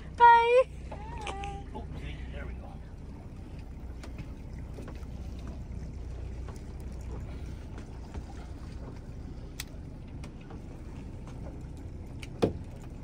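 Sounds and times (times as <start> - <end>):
outboard motor rumble: 0.0 - 13.0.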